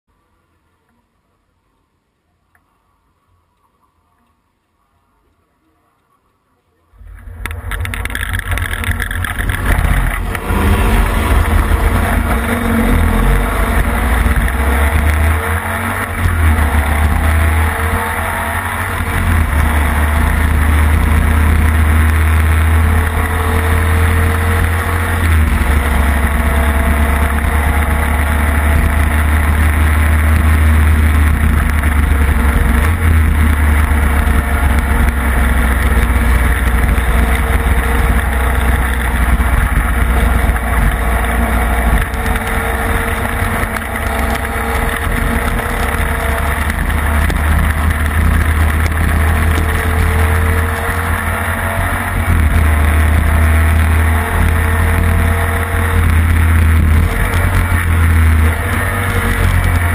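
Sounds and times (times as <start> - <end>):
motorcycle engine running hard: 7.2 - 59.9.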